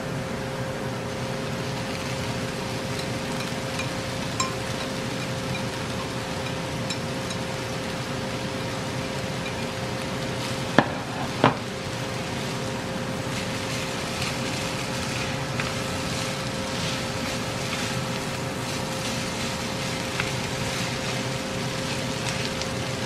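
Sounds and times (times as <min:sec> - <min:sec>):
noodles sizzling in a frying pan: 0:00.0 - 0:23.0
chopsticks stirring and tossing: 0:02.5 - 0:07.6, 0:09.4 - 0:23.0.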